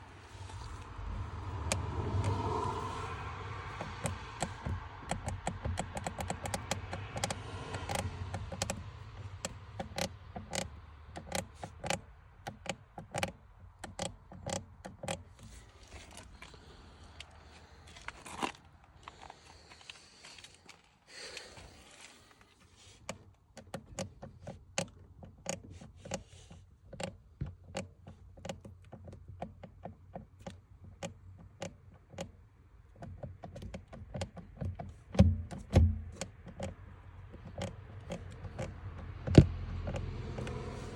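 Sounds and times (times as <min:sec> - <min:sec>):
clutch pedal clicks and knocks: 0:00.4 - 0:19.4, 0:22.4 - 0:40.9.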